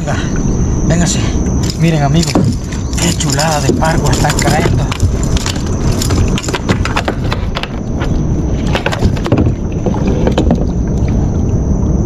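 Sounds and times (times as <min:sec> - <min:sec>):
wind rumble on microphone: 0:00.1 - 0:12.0.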